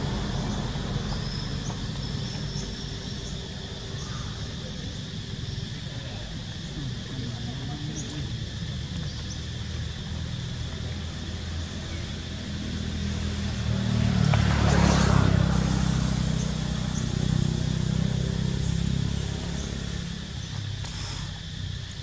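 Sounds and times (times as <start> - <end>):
vehicle engine passing: 0.0 - 20.8
insects droning: 0.0 - 22.0
tyre and road noise: 0.0 - 22.0.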